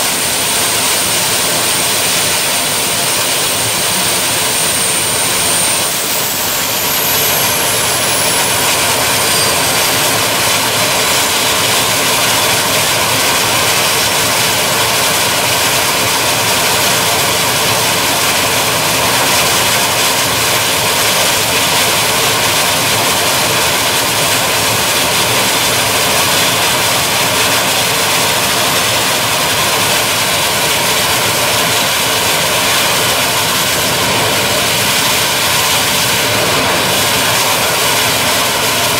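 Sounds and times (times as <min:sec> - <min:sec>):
gas turbine engine roaring: 0:00.0 - 0:38.9
high whine falling in pitch: 0:00.0 - 0:38.9.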